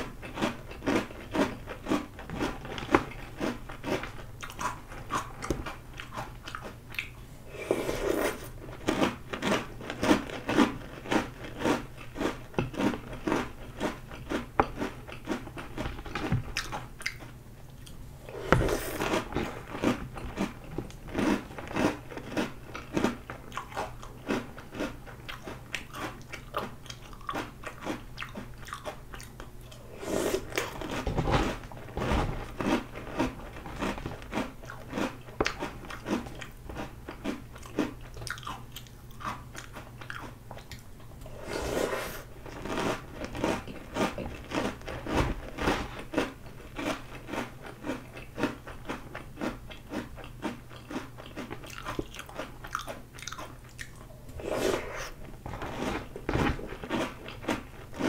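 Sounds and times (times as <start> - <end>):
crunching and chewing cereal: 0.0 - 58.0.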